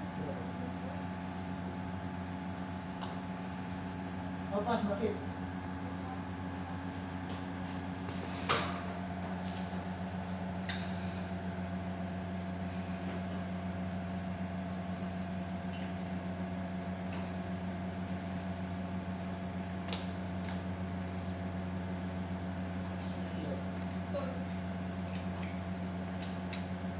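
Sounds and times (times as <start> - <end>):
steady mechanical hum: 0.0 - 26.9.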